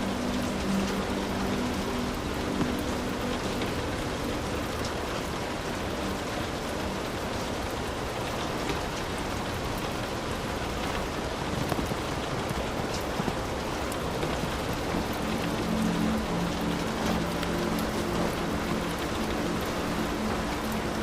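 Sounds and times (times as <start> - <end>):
heavy rain falling: 0.0 - 21.0
individual raindrops striking: 0.0 - 21.0.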